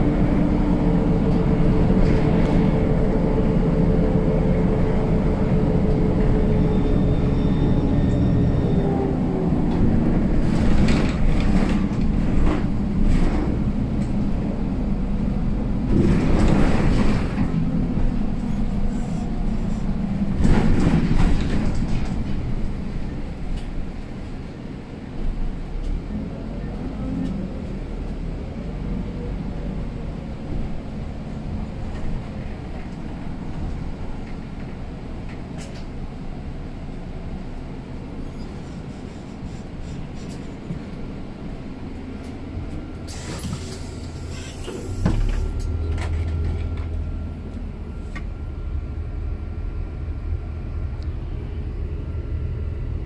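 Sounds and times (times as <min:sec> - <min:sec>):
bus engine: 0:00.0 - 0:53.0
road noise: 0:00.0 - 0:53.0.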